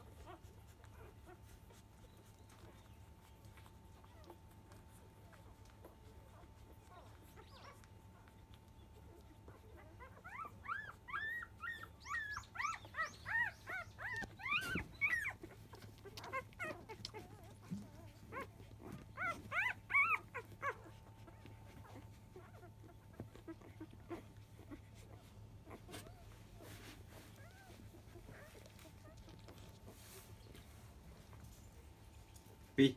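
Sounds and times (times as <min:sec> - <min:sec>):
puppies squeaking and whimpering: 0:00.0 - 0:32.8.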